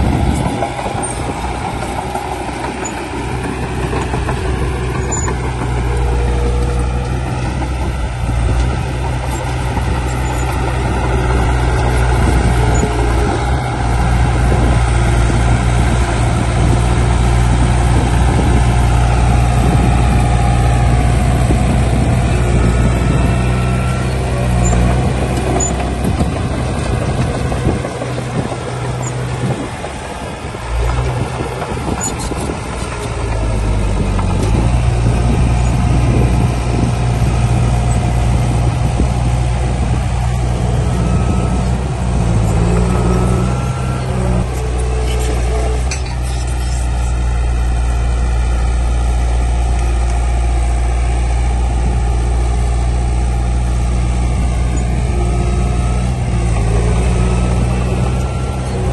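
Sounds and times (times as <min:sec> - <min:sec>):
diesel machinery engine drone: 0:00.0 - 0:58.9.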